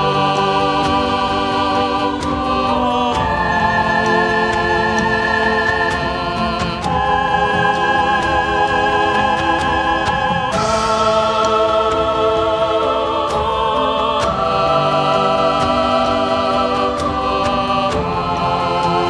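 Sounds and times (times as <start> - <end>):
choir-like voices holding chords: 0.0 - 19.0.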